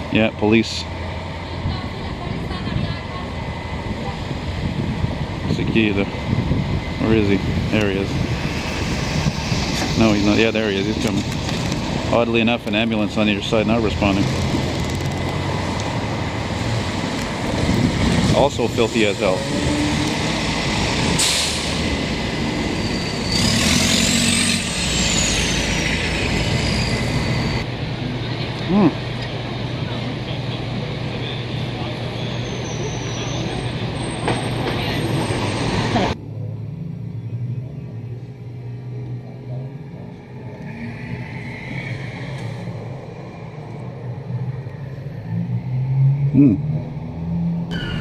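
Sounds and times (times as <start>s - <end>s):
street traffic: 0.0s - 48.0s.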